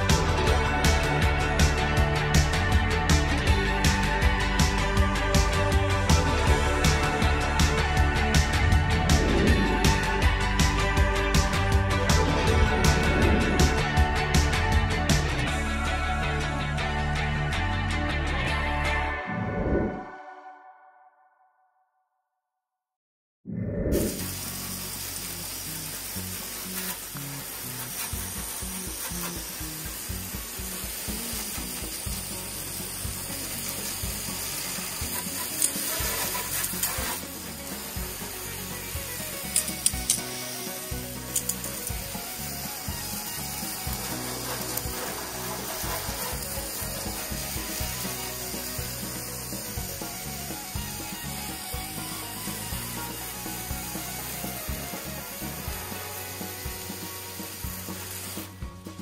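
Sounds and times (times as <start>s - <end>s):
water spray hissing on metal: 0.0s - 15.2s, 24.1s - 58.9s
background music with beat: 0.0s - 19.3s, 27.2s - 59.0s.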